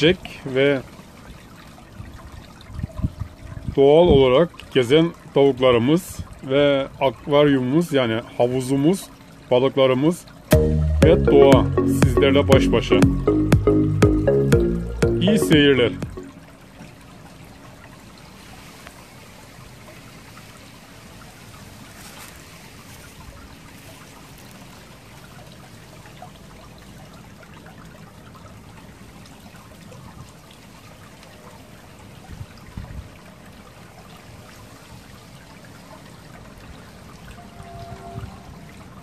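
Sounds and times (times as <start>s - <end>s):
water trickling into pond: 0.0s - 39.0s.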